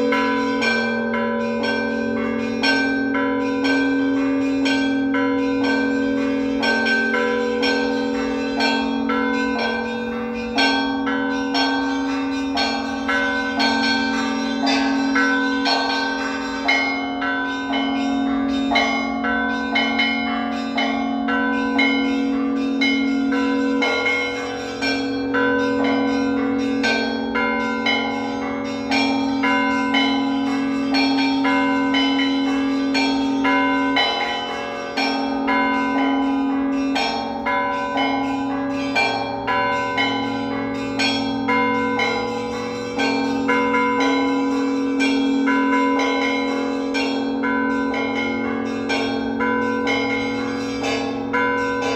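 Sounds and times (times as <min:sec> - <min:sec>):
high church bells struck quickly: 0:00.0 - 0:51.9
low bells ringing: 0:00.0 - 0:51.9.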